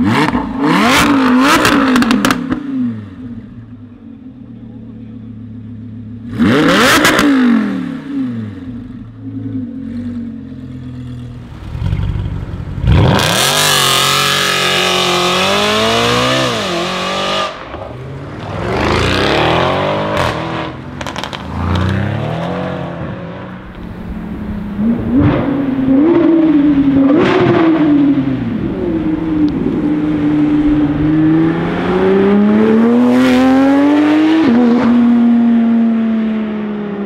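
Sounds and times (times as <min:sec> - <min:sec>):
car accelerating hard: 0:00.0 - 0:03.3, 0:06.2 - 0:08.7, 0:11.6 - 0:36.7
sports car engine revving: 0:00.0 - 0:36.7.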